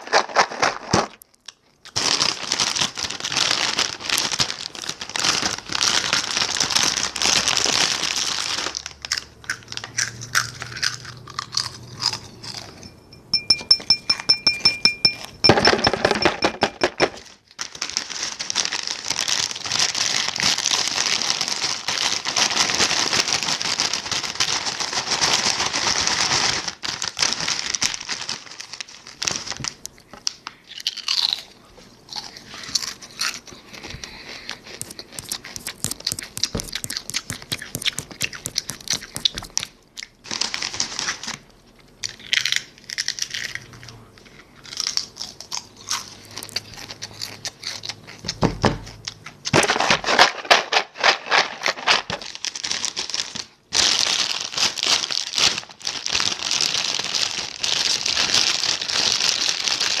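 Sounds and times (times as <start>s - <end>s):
crinkly material crumpling: 0.0s - 10.8s, 17.2s - 48.2s, 49.4s - 60.0s.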